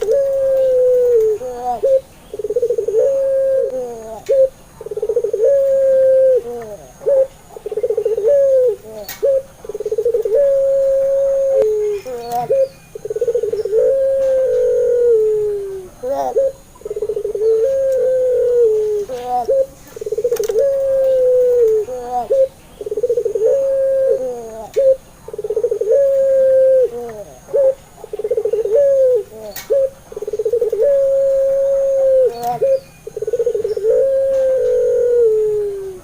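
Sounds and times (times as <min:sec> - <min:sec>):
dove cooing trills: 0:00.0 - 0:36.0.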